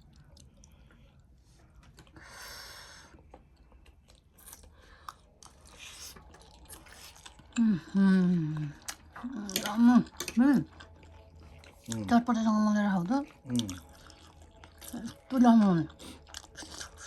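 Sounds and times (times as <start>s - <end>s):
person chewing noodles: 0.0s - 2.2s, 3.0s - 17.0s.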